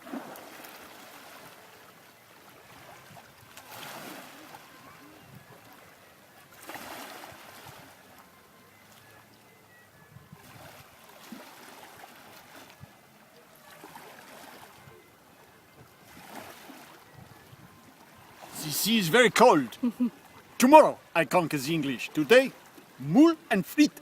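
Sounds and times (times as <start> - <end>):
small waves washing ashore: 0.0 - 9.4, 10.3 - 24.0.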